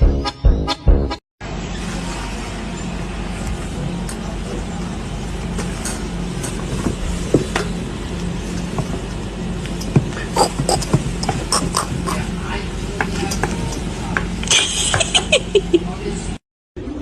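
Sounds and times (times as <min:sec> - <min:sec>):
low mechanical rumble: 0:01.4 - 0:17.0.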